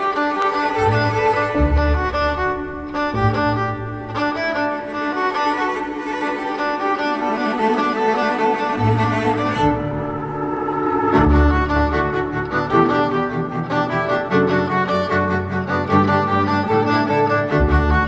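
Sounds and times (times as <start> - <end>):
bowed strings music: 0.0 - 18.0.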